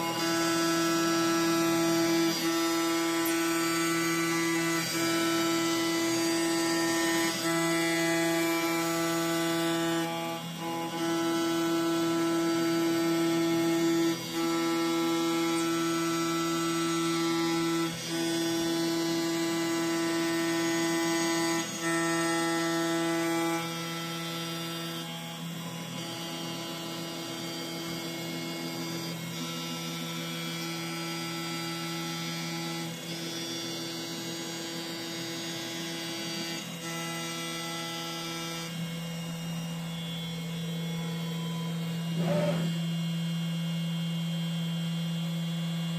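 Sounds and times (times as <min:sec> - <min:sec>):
milling machine spindle hum: 0:00.0 - 0:45.9.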